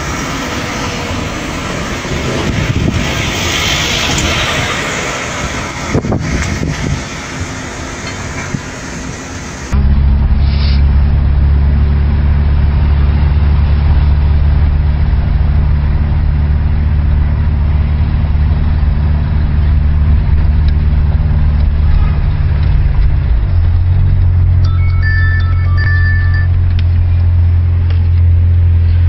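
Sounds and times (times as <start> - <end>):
car engine low rumble: 0.0 - 29.0.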